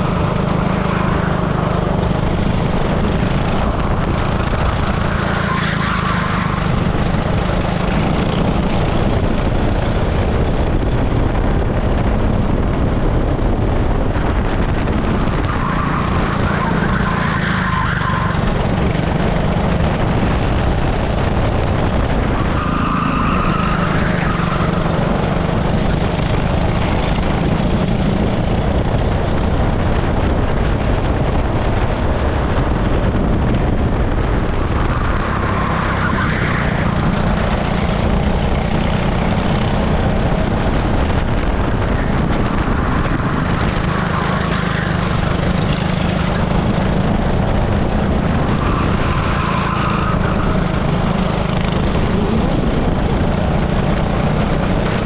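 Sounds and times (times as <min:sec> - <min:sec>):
kart engine running: 0:00.0 - 0:55.0.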